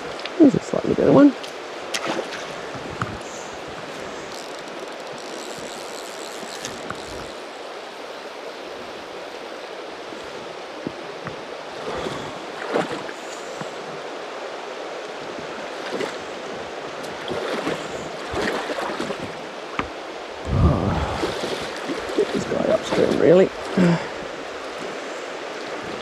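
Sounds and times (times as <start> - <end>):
flowing river water: 0.0 - 26.0
water splashes: 0.0 - 26.0.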